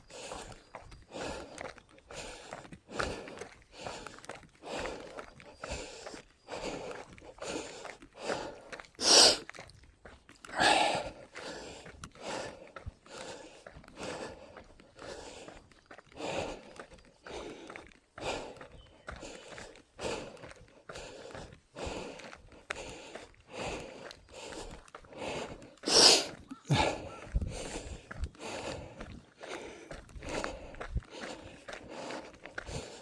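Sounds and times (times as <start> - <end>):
heavy rhythmic breathing: 0.0 - 9.6, 10.4 - 33.0.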